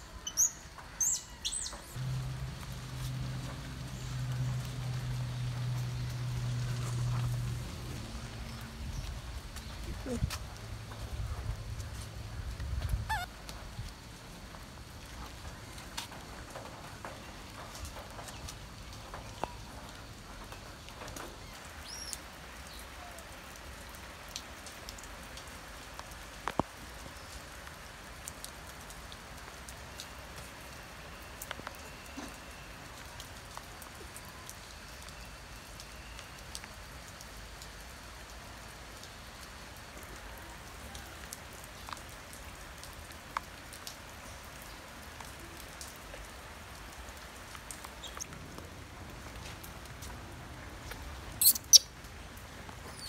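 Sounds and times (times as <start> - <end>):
light rain pattering: 0.0 - 53.0.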